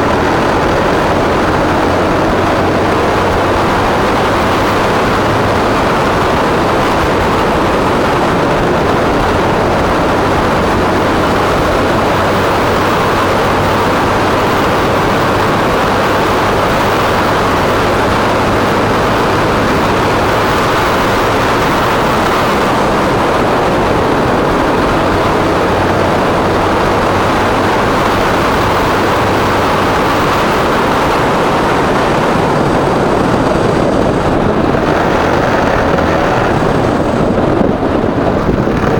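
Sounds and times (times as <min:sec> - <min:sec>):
motorcycle engine hum: 0:00.0 - 0:38.9
wind rushing while riding: 0:00.0 - 0:38.9.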